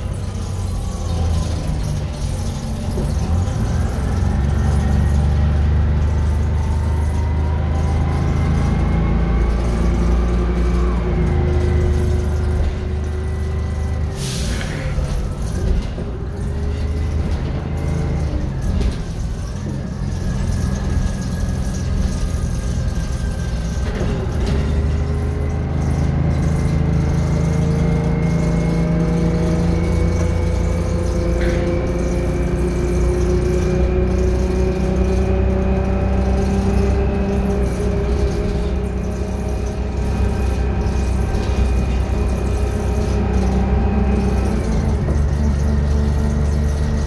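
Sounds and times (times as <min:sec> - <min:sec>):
bus diesel engine: 0:00.0 - 0:47.0.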